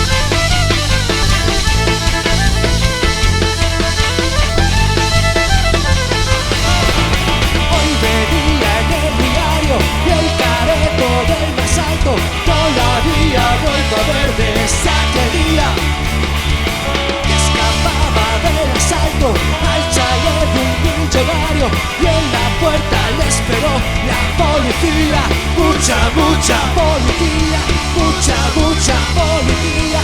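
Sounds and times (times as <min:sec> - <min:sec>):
band playing instrumental music: 0:00.0 - 0:30.0
drum and bass groove: 0:00.0 - 0:30.0
sliding lead melody: 0:00.0 - 0:30.0.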